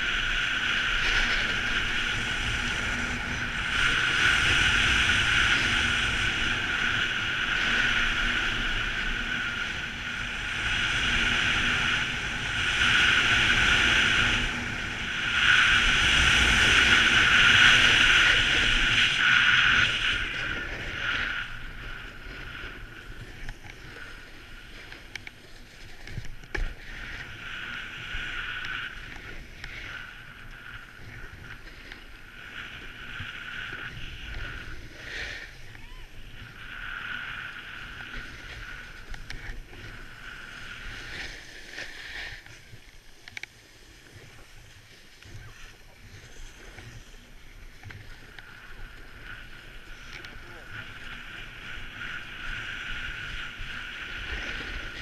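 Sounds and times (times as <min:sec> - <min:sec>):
snowboard carving on snow: 0:00.0 - 0:55.0
wind rushing over microphone: 0:00.0 - 0:55.0.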